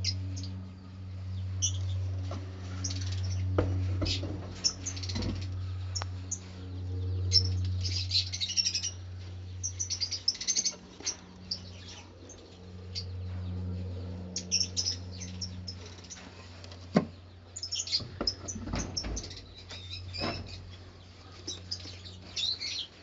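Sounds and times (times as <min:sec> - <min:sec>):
lovebirds chirping: 0:00.0 - 0:23.0
steady low hum: 0:00.0 - 0:23.0.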